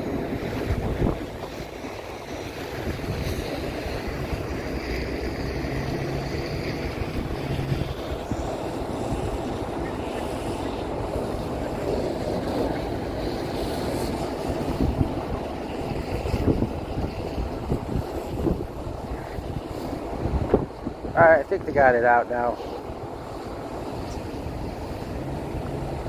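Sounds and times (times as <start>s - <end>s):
low engine rumble: 0.0s - 26.0s
wind on microphone: 0.0s - 26.0s.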